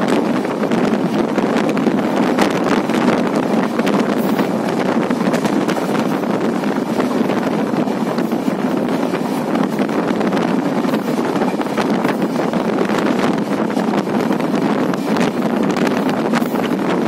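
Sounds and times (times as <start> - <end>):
train running on rails: 0.0 - 17.0
wind on microphone: 0.0 - 17.0.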